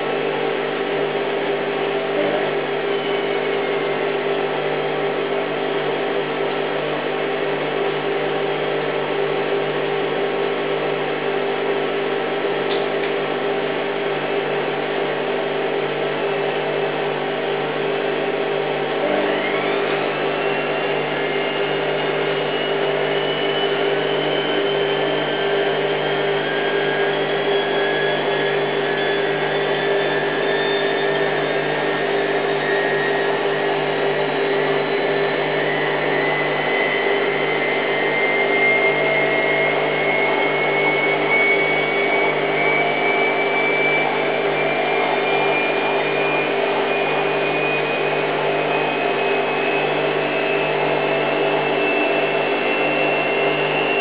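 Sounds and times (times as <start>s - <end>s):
rising motor whine: 0.0s - 54.0s
washing machine spin hum: 0.0s - 54.0s.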